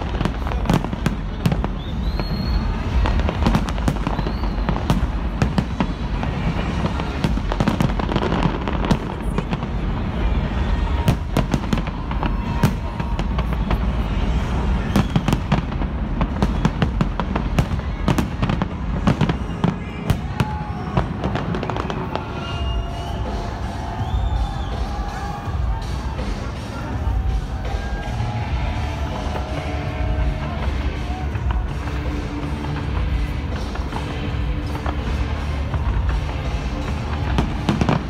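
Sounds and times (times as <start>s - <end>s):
fireworks booms and cracks: 0.0s - 38.0s.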